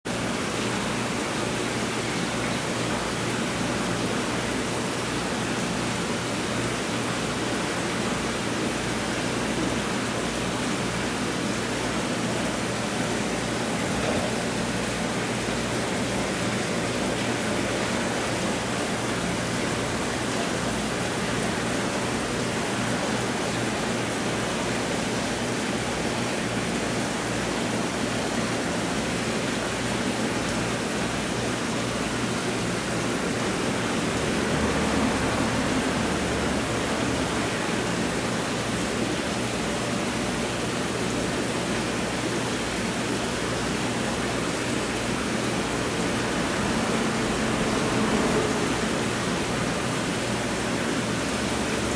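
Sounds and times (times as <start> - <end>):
rushing aquarium water: 0.1 - 51.9.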